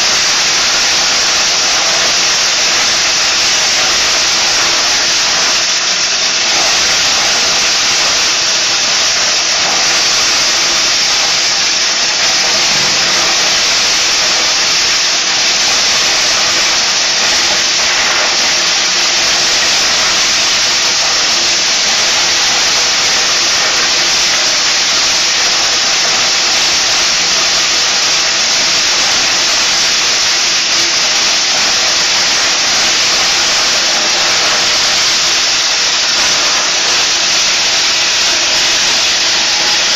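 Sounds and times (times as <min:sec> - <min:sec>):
corn sheller whirring: 0:00.0 - 0:39.9.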